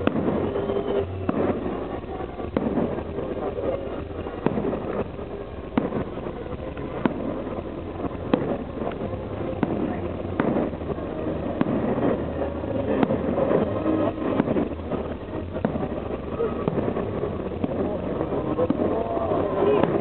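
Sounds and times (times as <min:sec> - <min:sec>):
background rumble: 0:00.0 - 0:20.0
fireworks bangs: 0:00.0 - 0:20.0.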